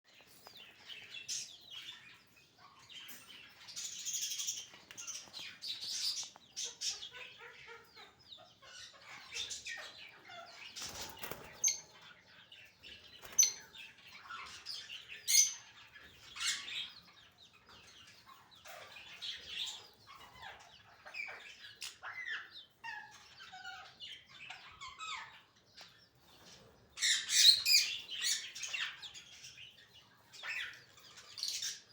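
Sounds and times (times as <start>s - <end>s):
lovebirds chirping and squawking: 0.1s - 31.9s.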